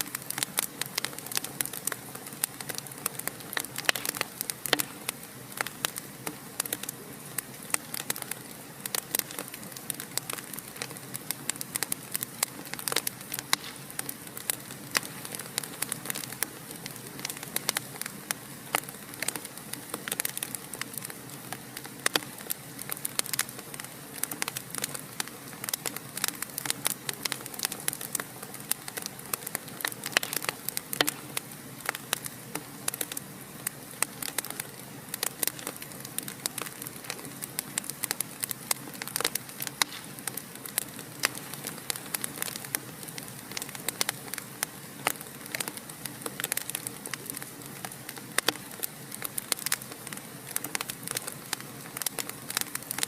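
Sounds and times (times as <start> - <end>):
soft steady hiss: 0.0 - 53.0
wood fire crackling: 0.0 - 53.0.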